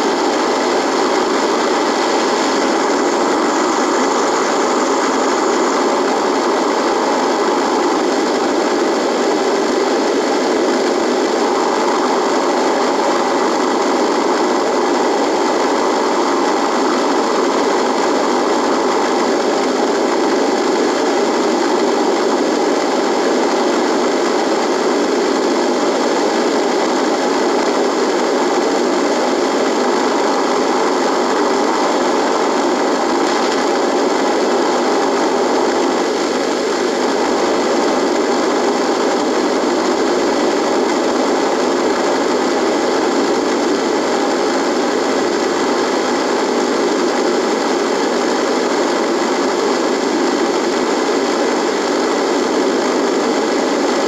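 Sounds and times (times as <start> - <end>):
faint constant tones: 0.0 - 54.0
radio static: 0.0 - 54.0.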